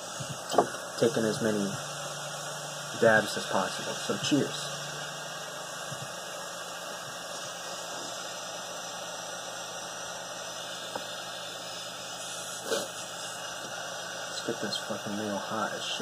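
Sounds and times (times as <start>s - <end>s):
butane torch hissing: 0.0s - 16.0s.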